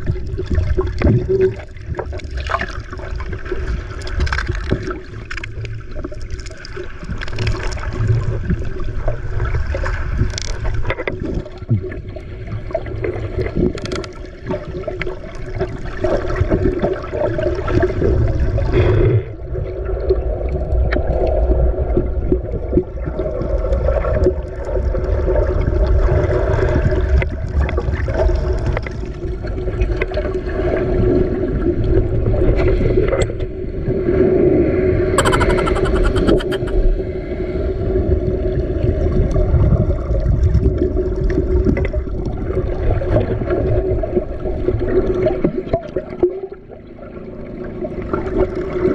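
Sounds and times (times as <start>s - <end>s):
water splashing around hull: 0.0s - 48.9s.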